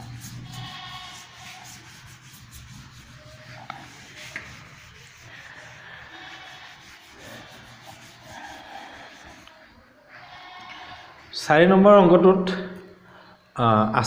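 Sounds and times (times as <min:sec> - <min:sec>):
duster wiping a chalkboard: 0:00.0 - 0:11.4.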